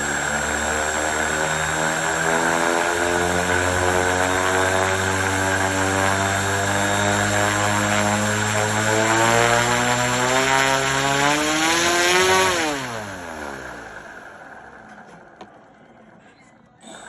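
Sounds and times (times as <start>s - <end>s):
model airplane motor buzzing: 0.0s - 14.6s.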